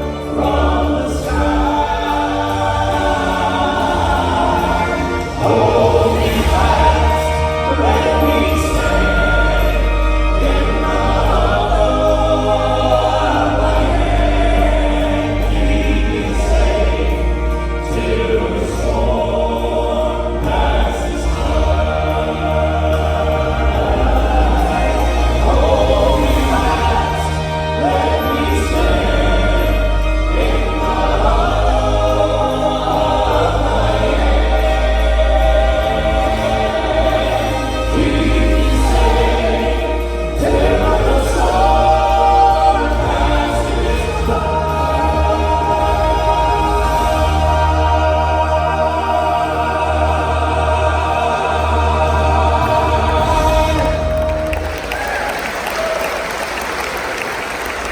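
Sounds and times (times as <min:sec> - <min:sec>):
steady bass accompaniment: 0:00.0 - 0:55.6
vocal group singing a hymn: 0:00.0 - 0:57.9.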